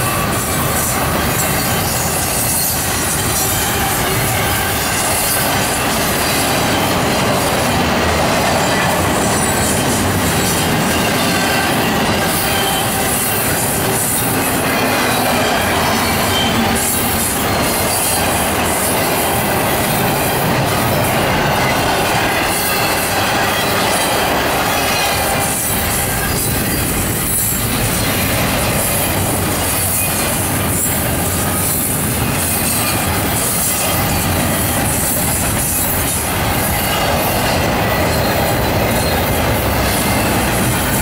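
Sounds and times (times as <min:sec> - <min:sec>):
high wheel squeal: 0:00.0 - 0:07.8, 0:08.4 - 0:41.0
steel wheels rolling on rail: 0:00.0 - 0:41.0
train wheel clacks: 0:00.0 - 0:41.0.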